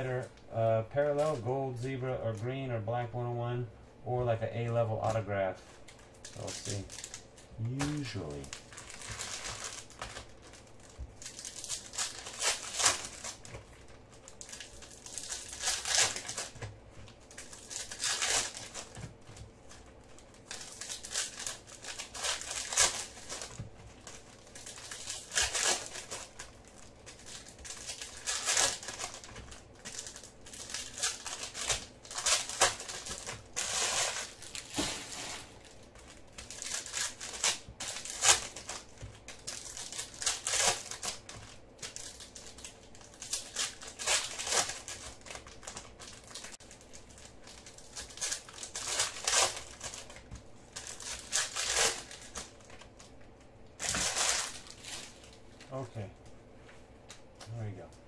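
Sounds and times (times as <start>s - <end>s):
foil wrappers crinkling and tearing: 4.2s - 56.0s.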